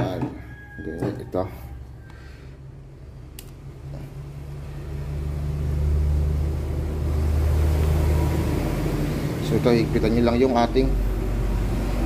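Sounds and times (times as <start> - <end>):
vehicle engine rumble: 1.3 - 12.0.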